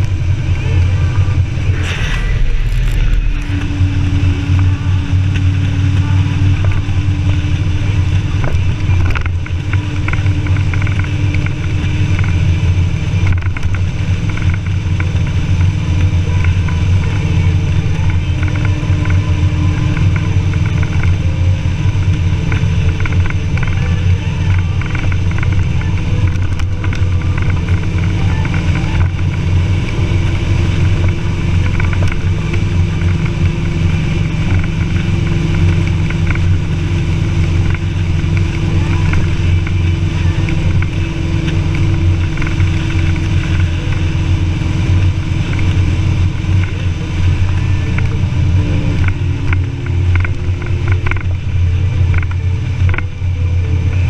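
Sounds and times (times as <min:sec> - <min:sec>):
motorcycle engine cruising: 0:00.0 - 0:54.0
wind rumble on microphone: 0:00.0 - 0:54.0.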